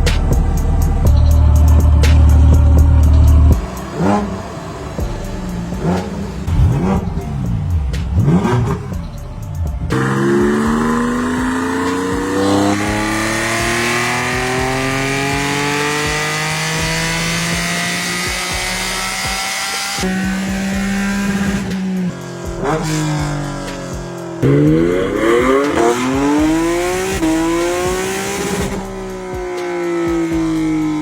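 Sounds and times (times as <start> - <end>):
sports car engine revving: 0.0 - 31.0.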